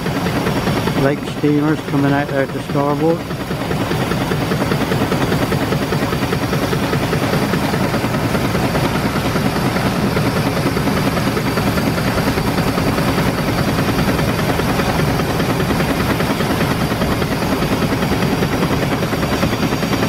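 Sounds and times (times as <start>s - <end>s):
steam engine beating rapidly: 0.0s - 20.0s.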